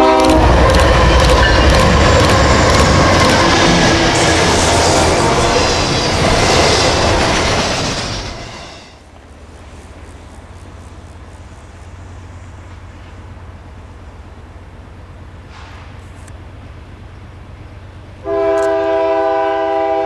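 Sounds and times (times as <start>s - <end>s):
distant diesel locomotive rumble: 0.0s - 20.0s
freight train rolling past: 0.0s - 20.0s.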